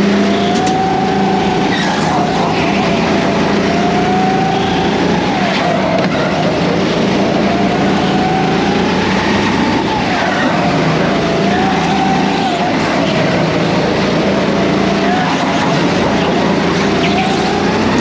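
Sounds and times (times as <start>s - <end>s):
loud steady noise: 0.0s - 18.0s
racing kart motor: 0.0s - 18.0s.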